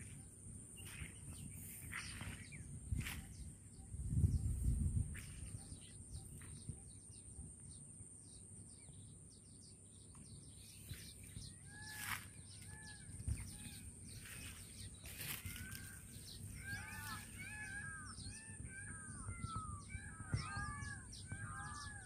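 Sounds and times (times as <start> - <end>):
wild birds chirping: 0.0 - 22.0.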